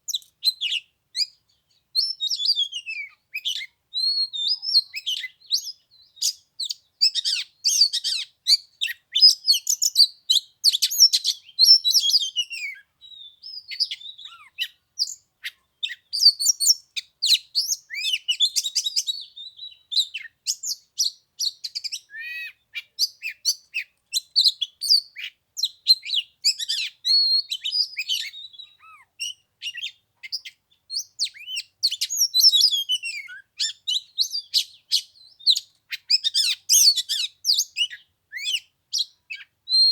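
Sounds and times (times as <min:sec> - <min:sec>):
magpie-robin singing: 0:00.1 - 0:39.9.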